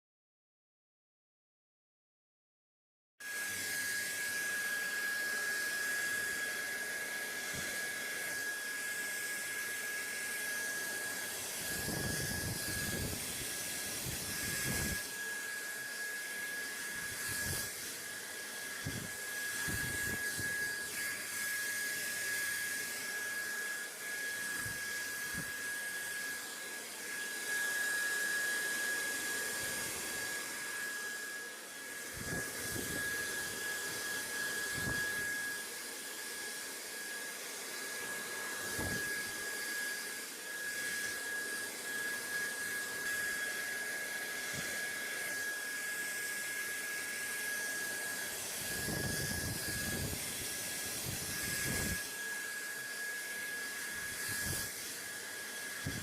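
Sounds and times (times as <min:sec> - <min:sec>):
appliance blower hiss and whine: 0:03.2 - 0:56.0.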